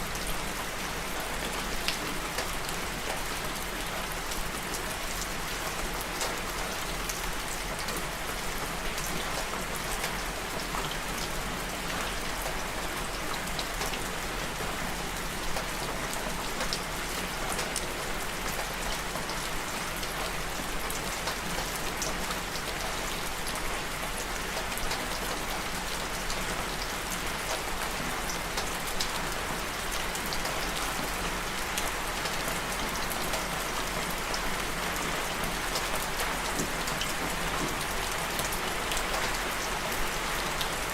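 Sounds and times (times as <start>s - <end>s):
rain drops pattering: 0.0s - 40.9s.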